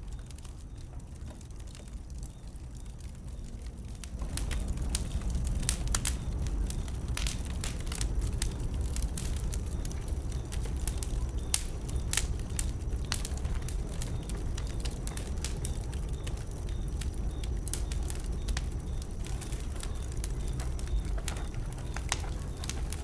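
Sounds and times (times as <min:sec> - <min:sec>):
bonfire crackling and popping: 0:00.0 - 0:23.0
low rumble of flames: 0:00.0 - 0:23.0.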